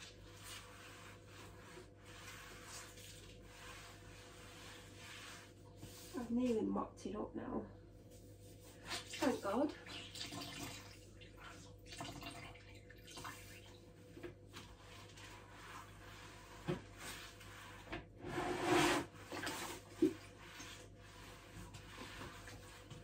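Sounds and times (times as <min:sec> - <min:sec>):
wet mop swishing water: 0:00.0 - 0:07.0, 0:08.0 - 0:23.0.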